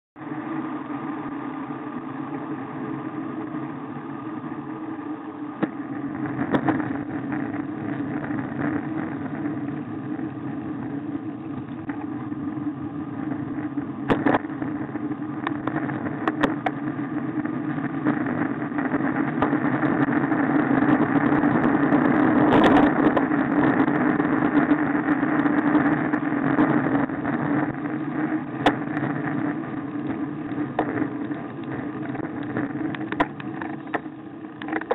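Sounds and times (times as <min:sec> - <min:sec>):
bicycle tyres on rough tarmac: 0:00.2 - 0:34.9
wind: 0:00.2 - 0:34.9.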